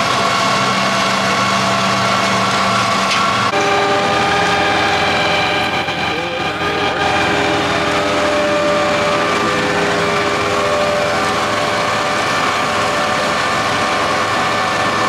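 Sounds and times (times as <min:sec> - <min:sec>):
high whining tones: 0:00.0 - 0:15.0
vehicle engine running: 0:00.0 - 0:15.0.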